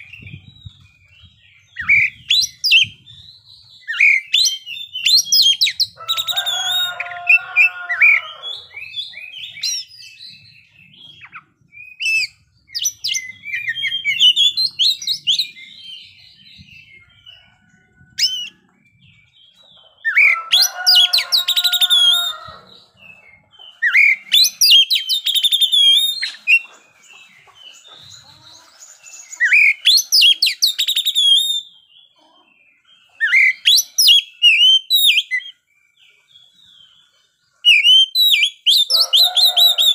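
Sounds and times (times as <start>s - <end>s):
bird singing whistles and trills: 0.0s - 5.9s, 8.4s - 17.5s, 18.1s - 27.1s, 28.8s - 32.1s, 33.0s - 37.0s, 37.6s - 39.9s.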